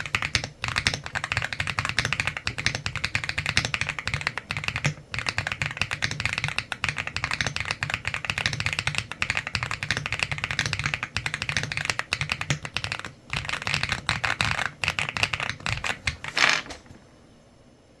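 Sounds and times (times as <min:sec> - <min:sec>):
mechanical keyboard typing: 0:00.0 - 0:16.8.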